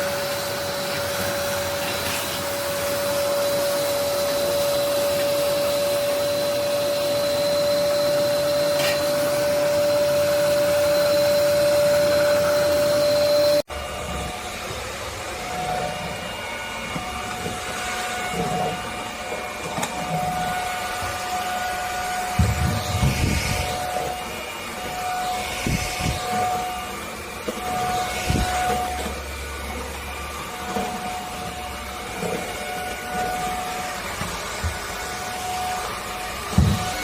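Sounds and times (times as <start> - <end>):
stick vacuum cleaner running: 0.0 - 37.0.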